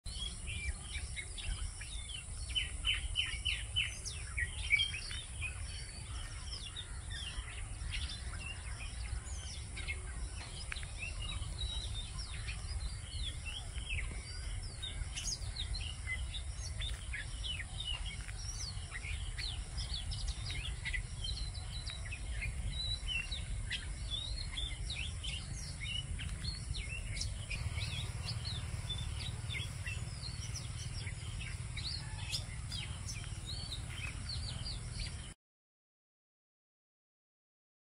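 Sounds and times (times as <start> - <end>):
bird singing quick chirps: 0.1 - 35.4.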